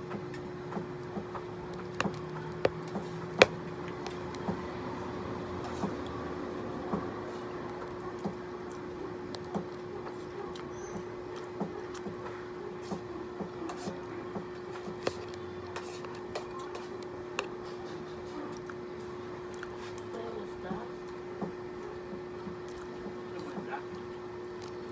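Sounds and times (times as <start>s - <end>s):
soft chewing: 0.3s - 24.9s.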